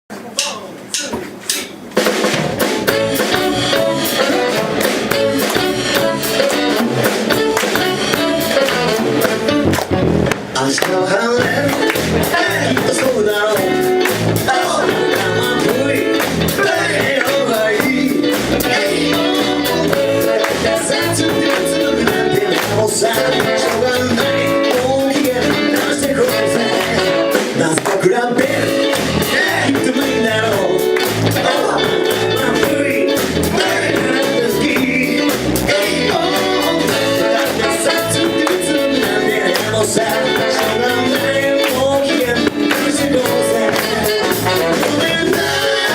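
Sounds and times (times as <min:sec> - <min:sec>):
band music: 0:00.1 - 0:45.9
bass and drums beat: 0:00.2 - 0:45.9
guitar: 0:01.7 - 0:45.9
person singing: 0:02.9 - 0:09.8, 0:10.5 - 0:45.9.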